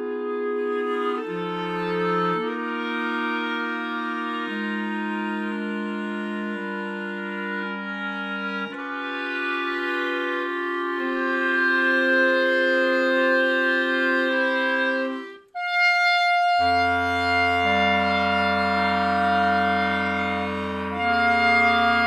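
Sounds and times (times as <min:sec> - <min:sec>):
clarinets playing held chords: 0:00.0 - 0:22.0.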